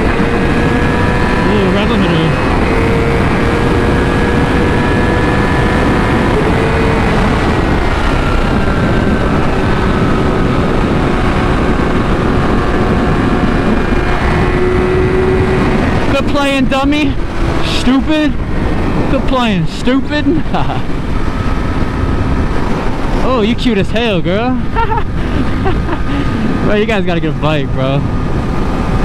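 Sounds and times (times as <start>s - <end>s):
motorcycle engine at steady revs: 0.0s - 29.0s
wind rushing on microphone: 0.0s - 29.0s.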